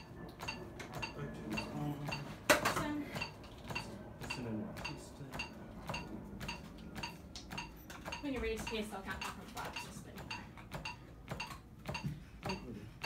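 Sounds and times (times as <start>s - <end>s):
manikin clicking under compressions: 0.0s - 13.0s.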